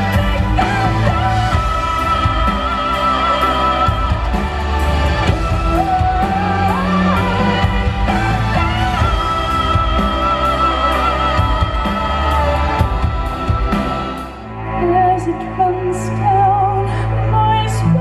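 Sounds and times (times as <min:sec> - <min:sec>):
drums and cymbals: 0:00.0 - 0:14.5
live rock band: 0:00.0 - 0:17.4.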